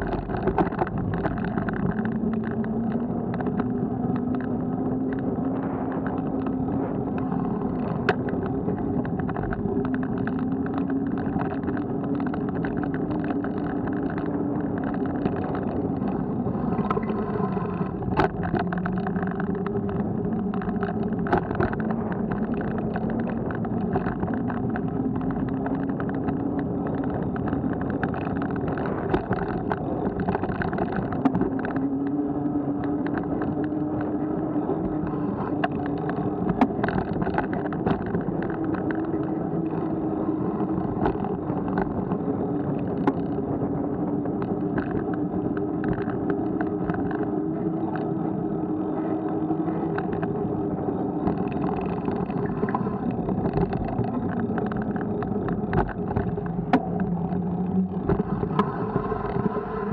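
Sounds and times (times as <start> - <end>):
bicycle road rumble and rattle: 0.0 - 59.9.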